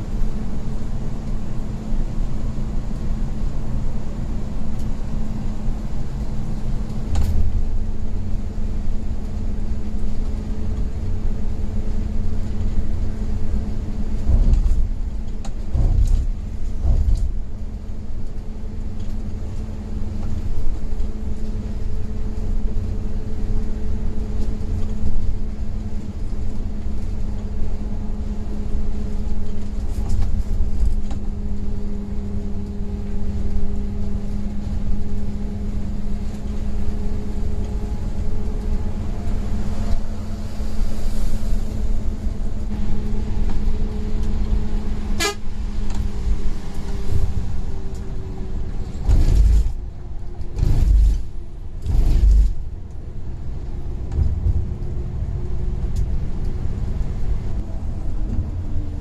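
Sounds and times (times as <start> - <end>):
coach engine drone: 0.0 - 59.0
road rumble: 0.0 - 59.0.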